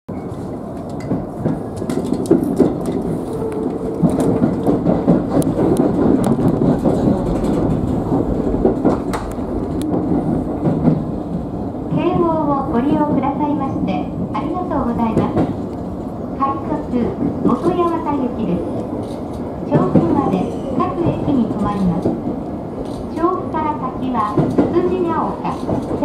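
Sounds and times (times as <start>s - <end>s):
train wheels rumbling on rail: 0.1s - 26.0s.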